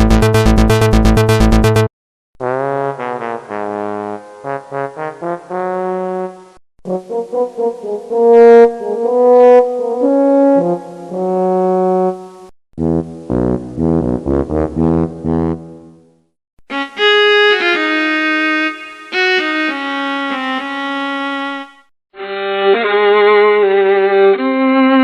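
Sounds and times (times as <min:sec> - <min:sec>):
brass instrument melody: 0:00.0 - 0:15.9, 0:16.7 - 0:21.9.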